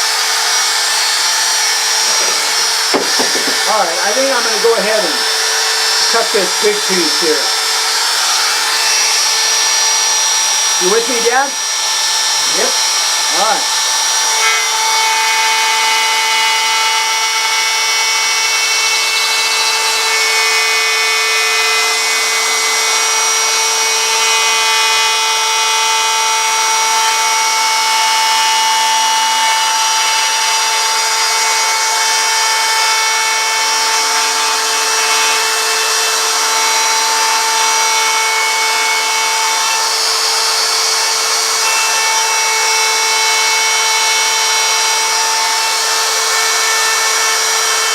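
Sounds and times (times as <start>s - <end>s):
wood router whining: 0.0s - 47.9s.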